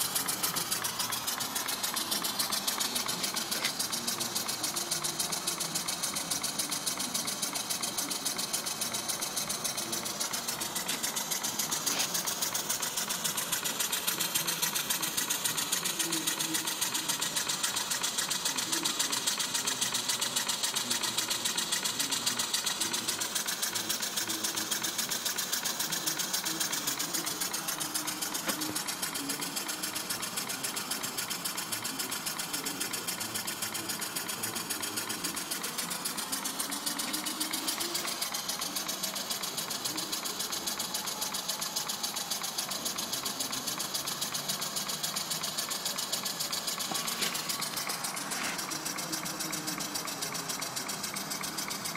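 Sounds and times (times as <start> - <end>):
steam engine exhaust puffs: 0.0 - 51.9
steam hiss: 0.0 - 51.9.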